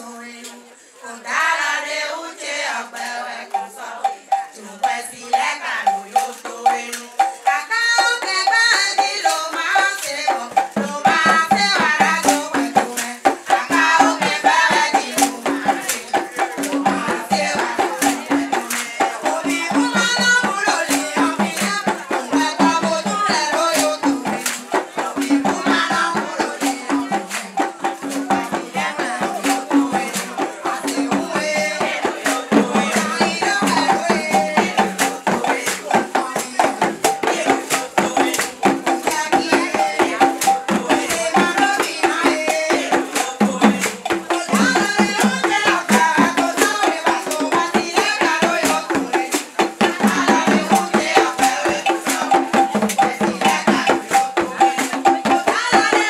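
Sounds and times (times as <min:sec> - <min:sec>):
woman singing into a microphone: 0:00.0 - 0:56.0
shaken rattle rhythm: 0:01.2 - 0:56.0.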